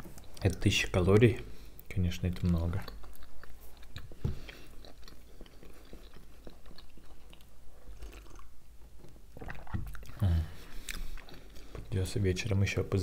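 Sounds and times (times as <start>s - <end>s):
chewing with wet mouth clicks: 0.0s - 11.9s.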